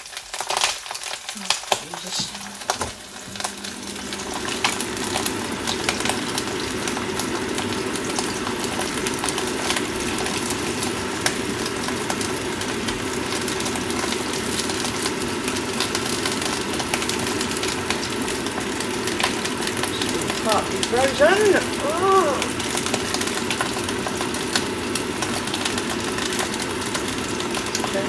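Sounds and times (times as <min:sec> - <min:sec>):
sausages sizzling in oil: 0:00.0 - 0:28.0.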